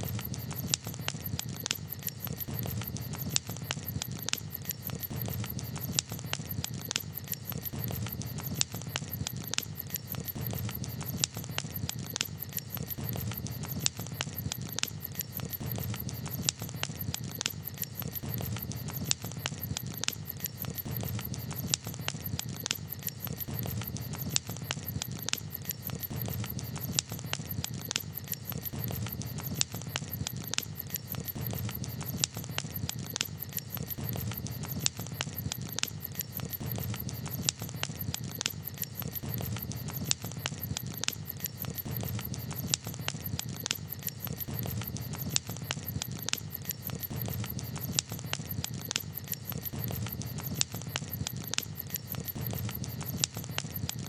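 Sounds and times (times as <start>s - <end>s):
campfire crackling and popping: 0.0s - 54.0s
low rumble of burning fire: 0.0s - 54.0s.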